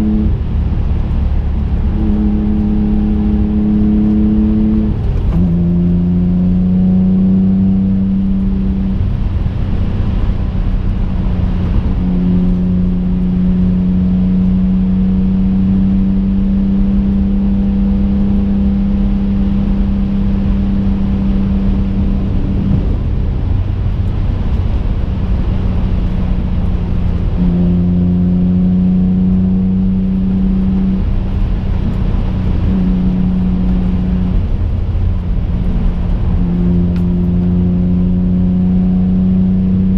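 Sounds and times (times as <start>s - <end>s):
car engine drone: 0.0s - 39.9s
road rumble: 0.0s - 39.9s.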